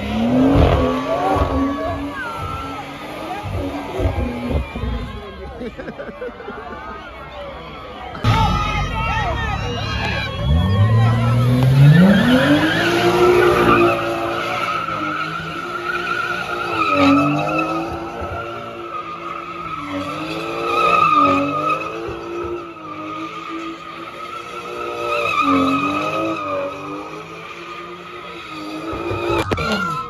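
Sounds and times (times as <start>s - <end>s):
car engine at high revs: 0.0s - 5.3s, 10.4s - 30.0s.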